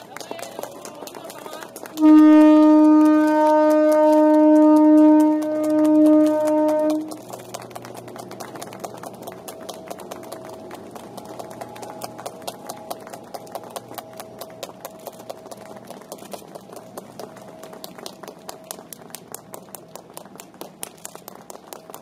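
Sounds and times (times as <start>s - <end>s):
train electric hum: 0.0s - 22.0s.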